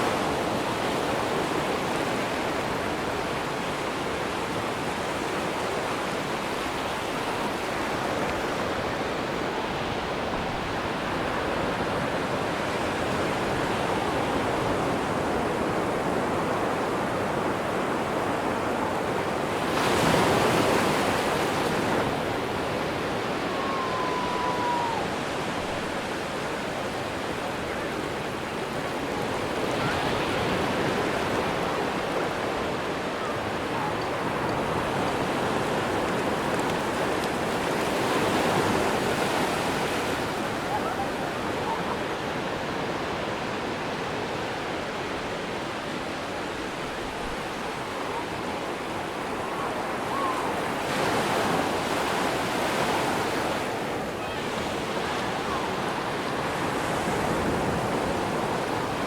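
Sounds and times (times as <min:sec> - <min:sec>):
waves on a sandy beach: 0:00.0 - 0:59.0.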